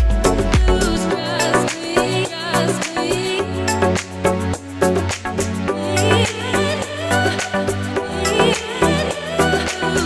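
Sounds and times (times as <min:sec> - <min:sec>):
music with drum beat and melody: 0:00.0 - 0:10.0.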